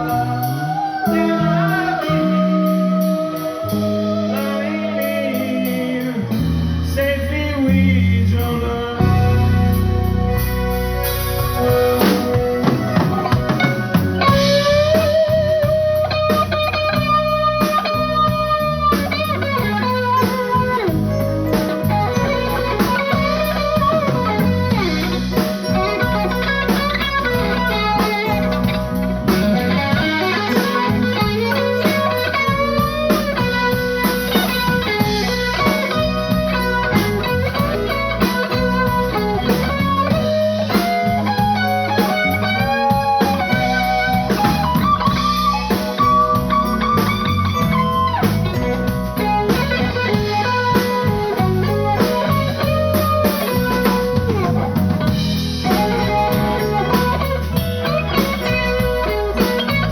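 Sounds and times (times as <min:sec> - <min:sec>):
blues band playing: 0:00.0 - 0:59.9
electric guitar bending notes: 0:00.0 - 0:59.9.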